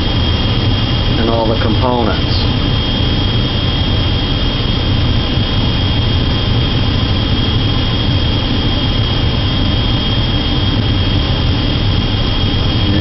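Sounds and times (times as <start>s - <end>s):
furnace burner rushing: 0.0s - 13.0s.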